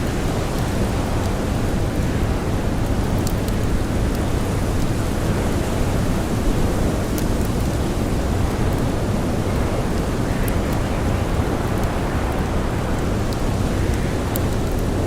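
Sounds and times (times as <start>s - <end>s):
blizzard wind rushing: 0.0s - 15.0s
campfire crackles: 0.0s - 15.0s.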